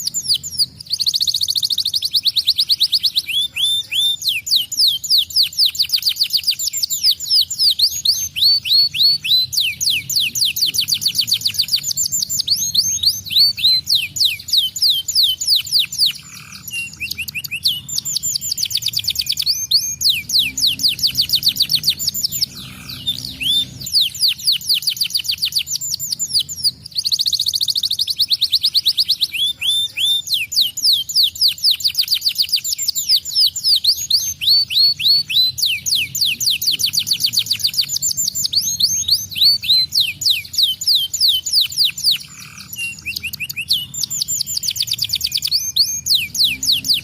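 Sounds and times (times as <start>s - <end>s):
canary singing in fast trills: 0.0s - 47.0s.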